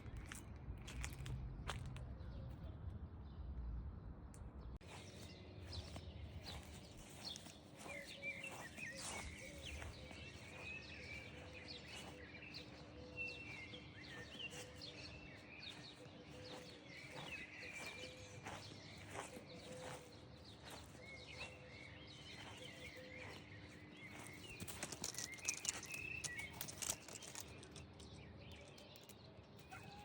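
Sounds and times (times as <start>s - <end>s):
birds chirping and twittering: 0.0s - 30.0s.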